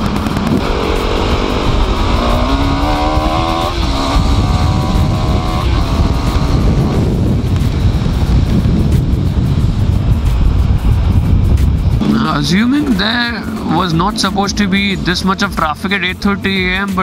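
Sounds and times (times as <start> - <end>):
motorcycle engine accelerating: 0.0 - 17.0
wind rumble on microphone: 0.0 - 17.0.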